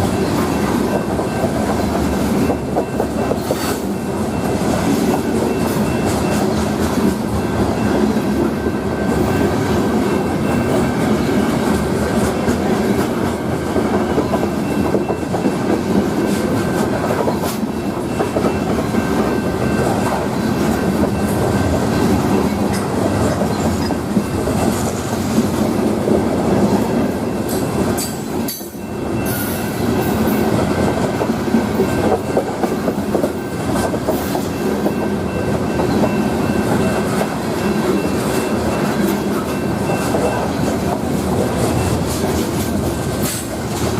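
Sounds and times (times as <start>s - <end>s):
train wheels clattering over rail joints: 0.0s - 43.9s.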